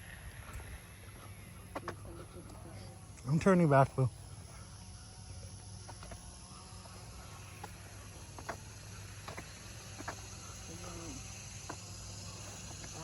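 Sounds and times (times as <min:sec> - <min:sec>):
faint outdoor background: 0:00.0 - 0:13.0
footsteps on woodland trail: 0:00.0 - 0:13.0.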